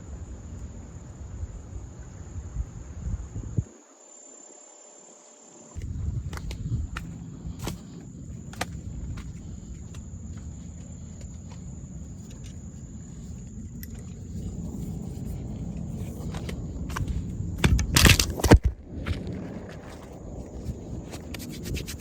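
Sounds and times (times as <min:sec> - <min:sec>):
low steady rumble: 0:00.0 - 0:03.7, 0:05.8 - 0:22.0
insects trilling: 0:00.0 - 0:22.0.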